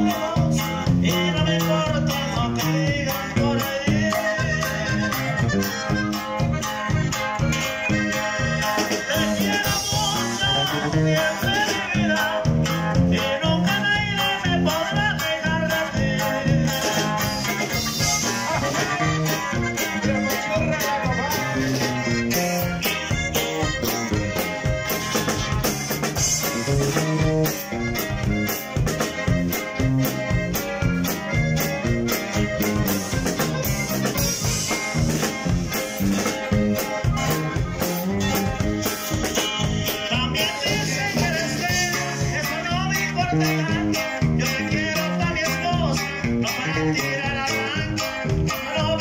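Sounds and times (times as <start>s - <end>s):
live band with accordion: 0.0s - 49.0s.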